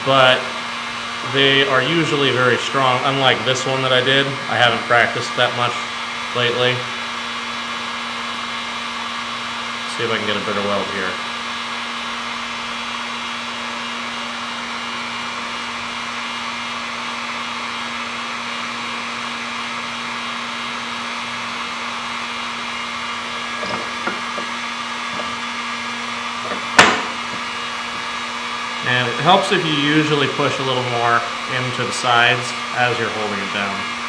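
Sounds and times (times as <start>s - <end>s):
heat gun blowing: 0.0s - 34.0s.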